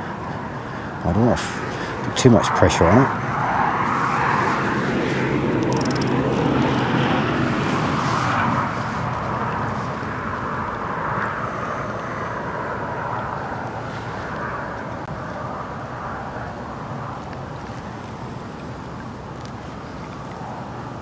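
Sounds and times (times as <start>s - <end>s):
rumbling outdoor background noise: 0.0s - 21.0s.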